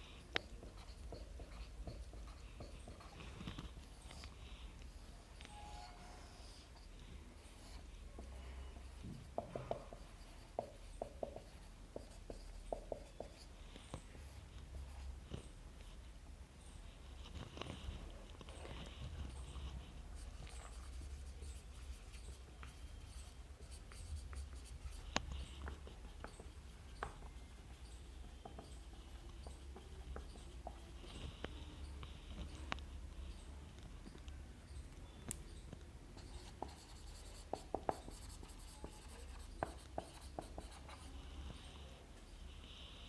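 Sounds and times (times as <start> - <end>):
marker pen scratching on paper: 0.0 - 33.5, 36.1 - 42.0.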